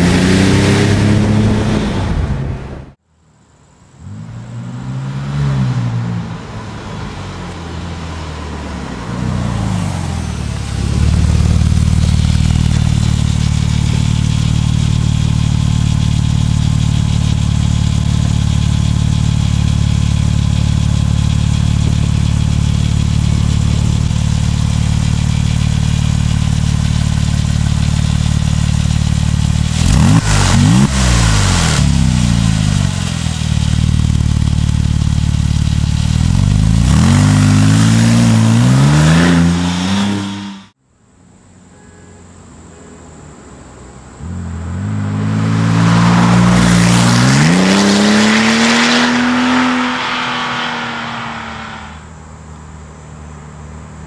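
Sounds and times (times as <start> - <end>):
sports car engine revving: 0.0 - 2.5, 4.0 - 40.8, 44.2 - 52.2.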